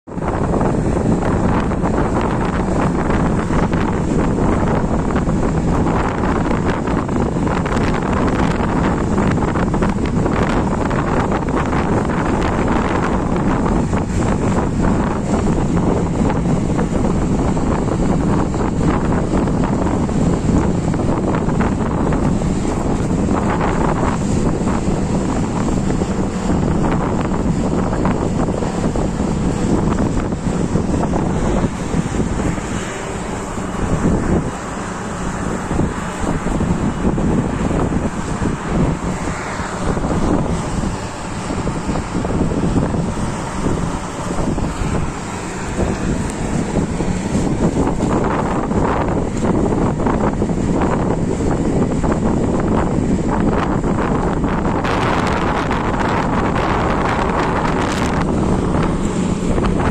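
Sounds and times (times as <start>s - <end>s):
choppy water washing: 0.0s - 59.9s
wind buffeting microphone: 0.0s - 59.9s.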